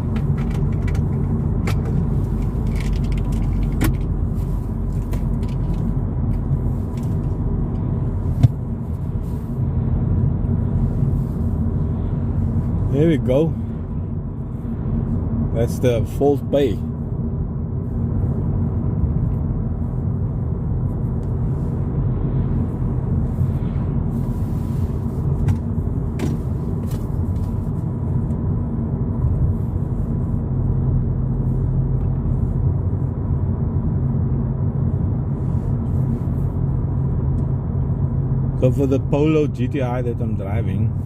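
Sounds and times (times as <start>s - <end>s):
road and engine rumble: 0.0s - 41.0s.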